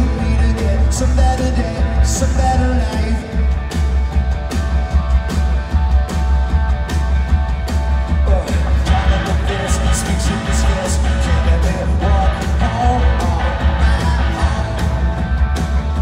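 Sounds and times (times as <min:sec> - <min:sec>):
heavy bass: 0:00.0 - 0:16.0
live rock band playing: 0:00.0 - 0:16.0.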